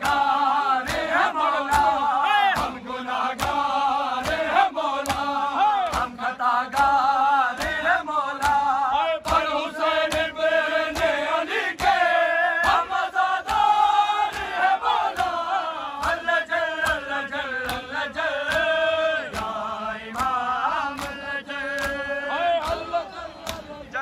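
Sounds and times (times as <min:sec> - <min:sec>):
hands slapping chests: 0:00.0 - 0:23.8
men chanting a lament: 0:00.0 - 0:24.0.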